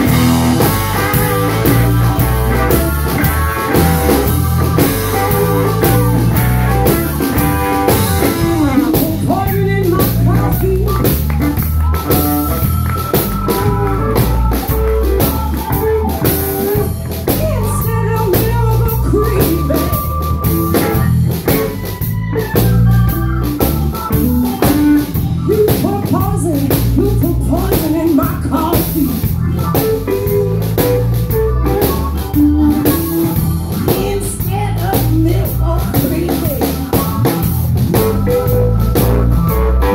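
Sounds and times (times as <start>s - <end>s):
drum kit: 0.0s - 39.9s
electric bass: 0.0s - 39.9s
electric guitar: 0.0s - 39.9s.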